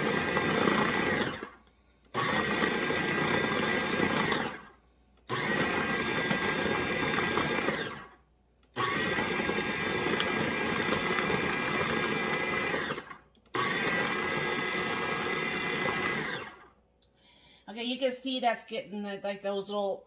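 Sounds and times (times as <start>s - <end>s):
food processor motor whine: 0.0s - 16.8s.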